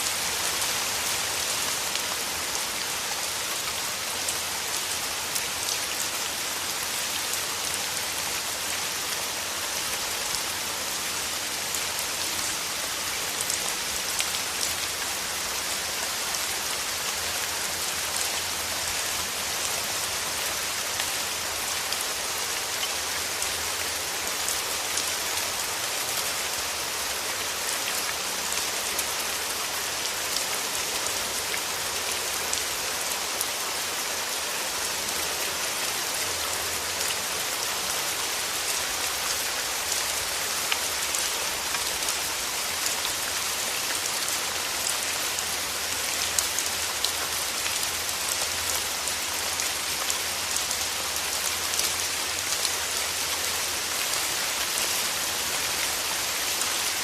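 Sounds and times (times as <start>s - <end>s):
rain falling through trees: 0.0s - 57.0s.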